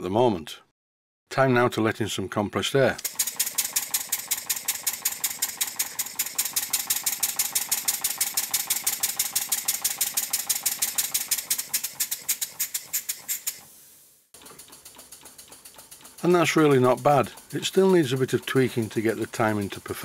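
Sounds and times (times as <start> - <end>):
model steam engine chuffing: 3.0 - 13.7, 14.4 - 20.0.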